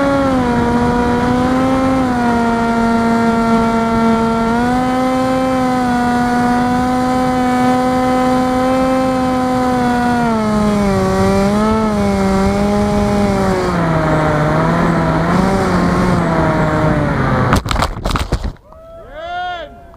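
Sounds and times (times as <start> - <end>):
electric motor and propeller buzzing: 0.0 - 18.6.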